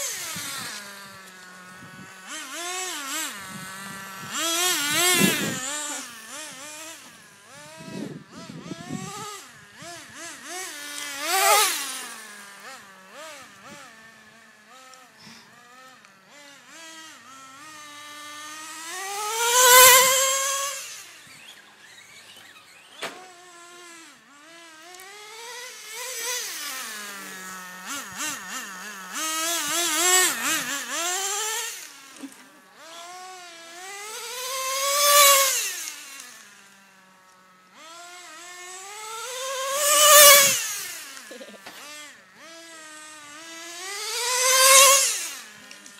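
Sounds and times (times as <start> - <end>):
rc car engine revving past: 0.0 - 45.9.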